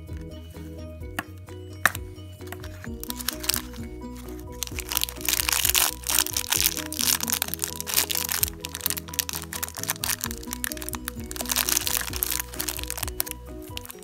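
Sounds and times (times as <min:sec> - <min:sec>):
background music: 0:00.0 - 0:14.0
plastic bags crinkling: 0:02.5 - 0:14.0.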